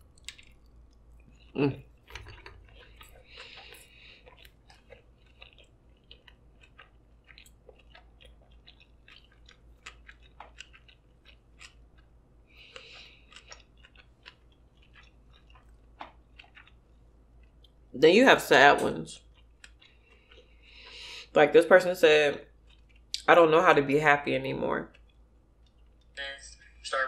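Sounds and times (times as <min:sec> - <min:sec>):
close-miked wet chewing: 0:00.0 - 0:17.9, 0:19.1 - 0:21.4, 0:22.4 - 0:23.3, 0:24.8 - 0:26.2.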